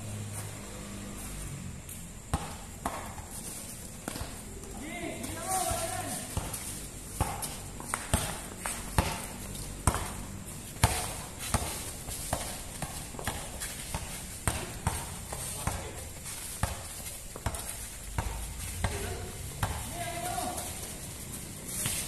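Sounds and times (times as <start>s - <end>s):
sandals scuffing on concrete: 0.1s - 22.0s
basketball bouncing on concrete: 1.8s - 3.4s, 4.0s - 20.7s.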